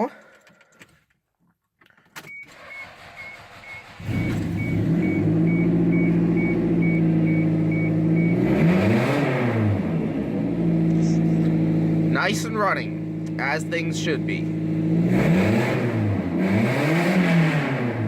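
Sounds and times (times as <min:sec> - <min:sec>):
car engine starting and idling: 0:02.0 - 0:18.0.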